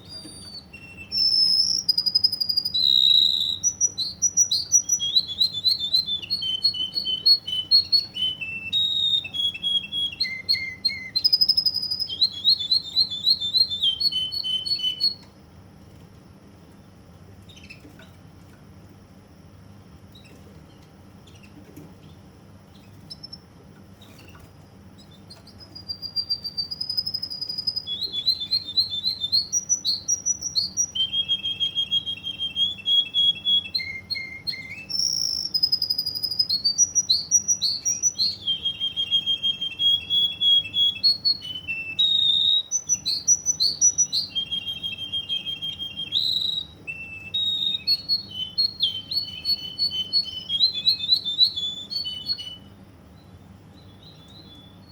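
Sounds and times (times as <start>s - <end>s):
canary singing trills: 0.0s - 15.4s, 17.4s - 18.1s, 20.1s - 54.9s.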